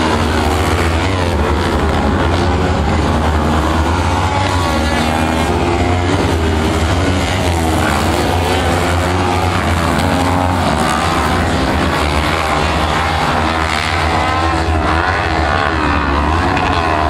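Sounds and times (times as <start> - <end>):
buggy engines revving: 0.0 - 17.0
steady low drone: 0.0 - 17.0.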